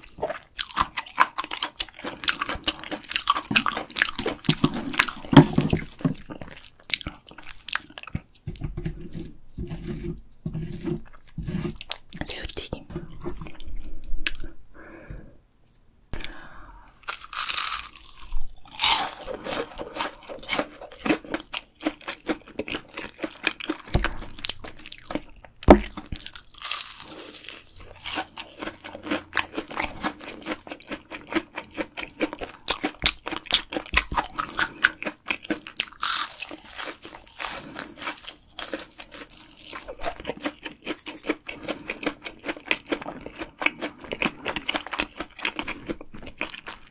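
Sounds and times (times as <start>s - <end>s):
crunching and chewing snacks: 0.0s - 8.3s, 17.0s - 46.9s.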